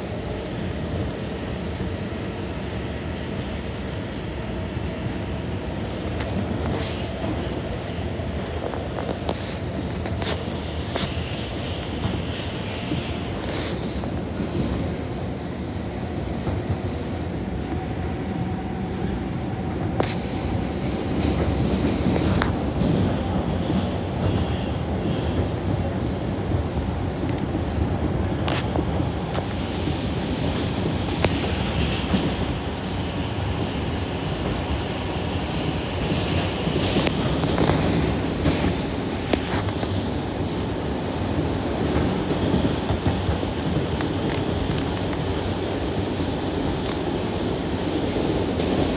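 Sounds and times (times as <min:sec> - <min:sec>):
subway wheels rumbling on rail: 0:00.0 - 0:48.9.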